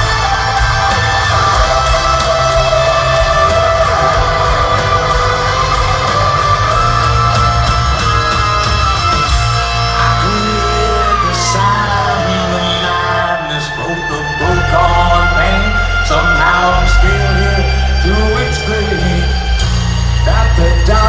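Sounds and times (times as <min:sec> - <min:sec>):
bass: 0:00.0 - 0:21.0
distorted electric guitar: 0:00.0 - 0:21.0
drums: 0:00.0 - 0:21.0.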